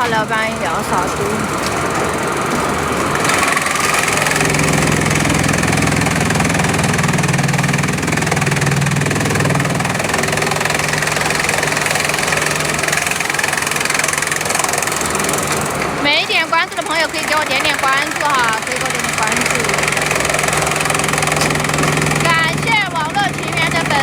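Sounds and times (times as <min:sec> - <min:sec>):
machinery humming and grinding: 0:00.0 - 0:24.0.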